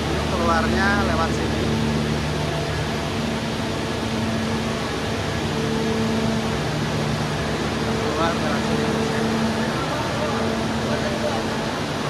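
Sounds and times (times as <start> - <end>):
low mechanical drone: 0.0 - 12.0
low steady tones: 0.0 - 12.0.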